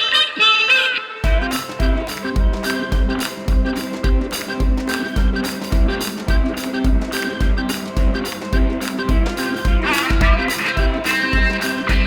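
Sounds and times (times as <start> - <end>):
guitar: 0.0 - 12.0
steady drum beat: 1.2 - 12.0.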